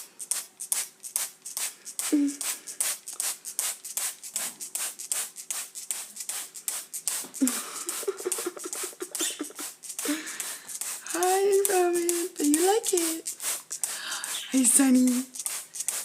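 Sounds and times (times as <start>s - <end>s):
spray bottle hissing squirts: 0.0s - 16.0s.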